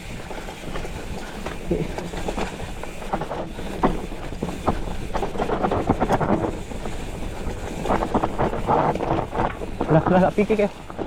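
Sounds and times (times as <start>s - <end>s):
bike rattling over rough ground: 0.0s - 11.0s
wind buffeting microphone: 0.0s - 11.0s.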